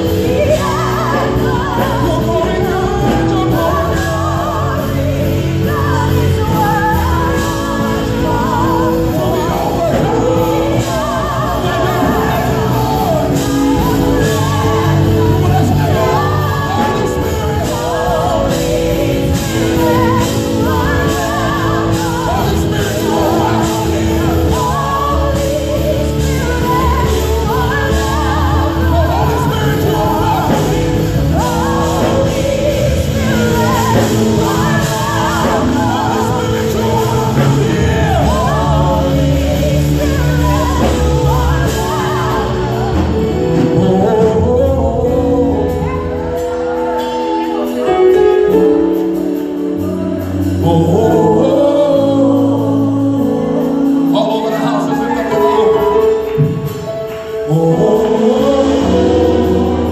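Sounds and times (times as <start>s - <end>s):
gospel singers with band: 0.0s - 59.9s.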